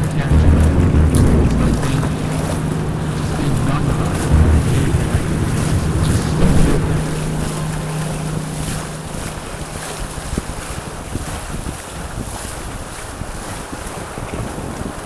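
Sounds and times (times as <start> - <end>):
water washing against hull: 0.0 - 15.0
wind buffeting microphone: 0.0 - 15.0.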